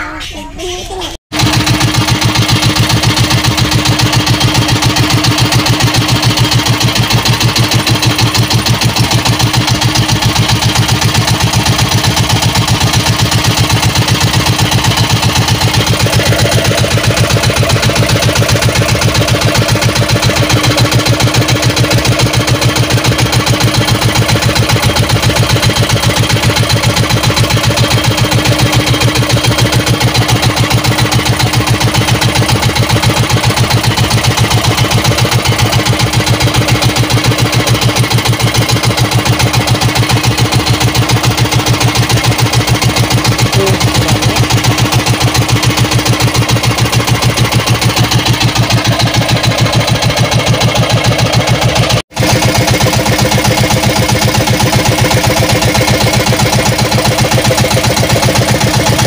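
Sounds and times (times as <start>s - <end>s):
boat engine chugging: 0.6s - 59.0s.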